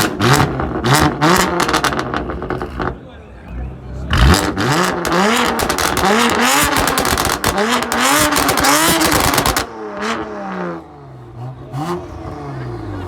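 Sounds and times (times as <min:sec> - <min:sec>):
car engine revving with crackles: 0:00.0 - 0:03.0, 0:03.6 - 0:13.0.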